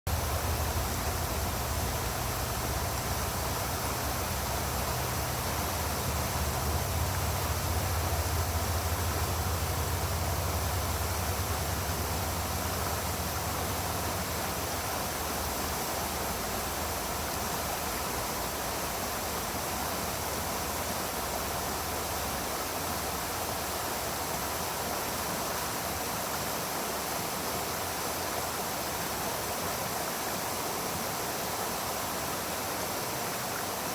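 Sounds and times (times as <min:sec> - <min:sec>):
brook babbling: 0:00.1 - 0:33.9.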